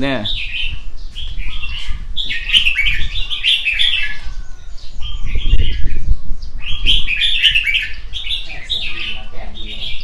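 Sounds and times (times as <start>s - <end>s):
birds chirping and calling: 0.0s - 10.0s.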